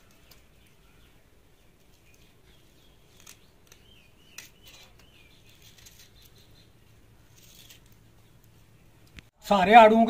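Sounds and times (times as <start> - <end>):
birds chirping: 0.0 - 9.2.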